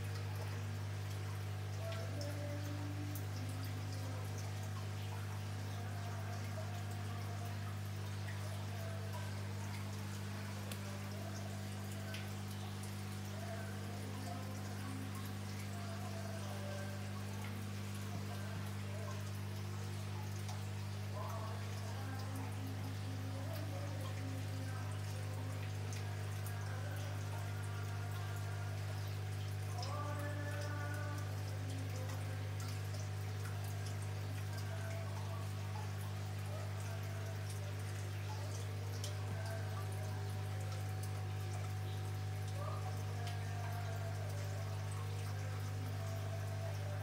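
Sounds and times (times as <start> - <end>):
aquarium water trickling and dripping: 0.0 - 47.0
low pump hum: 0.0 - 47.0.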